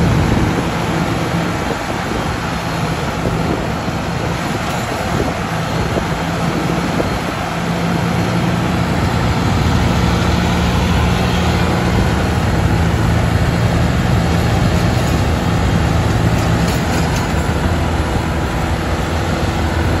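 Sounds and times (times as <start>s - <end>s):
tractor diesel engines under load: 0.0s - 20.0s
tyres churning loose dirt: 0.0s - 20.0s.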